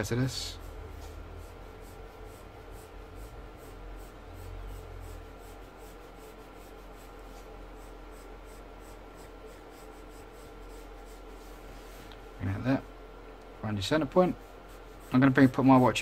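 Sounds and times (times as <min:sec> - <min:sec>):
pencil sketching on paper: 0:00.0 - 0:12.9, 0:13.9 - 0:16.0
faint steady hum: 0:00.0 - 0:16.0.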